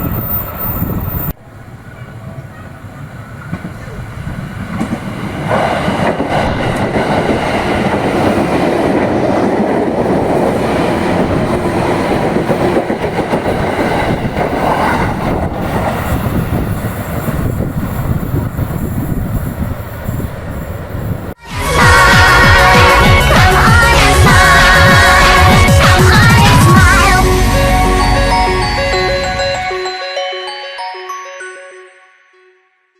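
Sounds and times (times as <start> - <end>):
electric train passing: 0.0 - 31.1.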